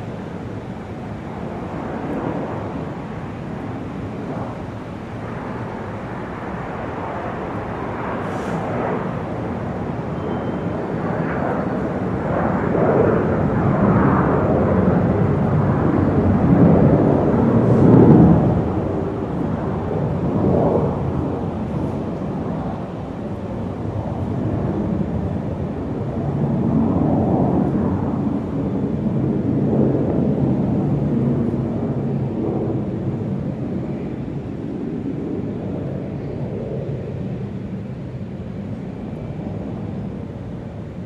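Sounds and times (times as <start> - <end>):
aircraft engines: 0.0 - 41.0.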